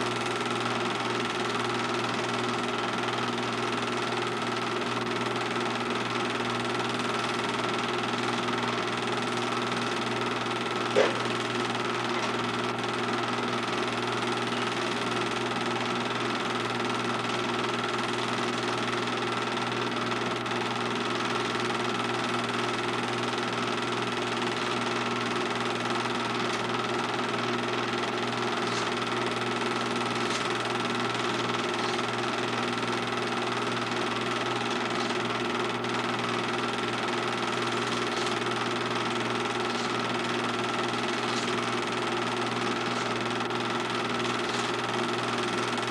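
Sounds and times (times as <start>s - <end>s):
film projector whirring: 0.0s - 45.9s.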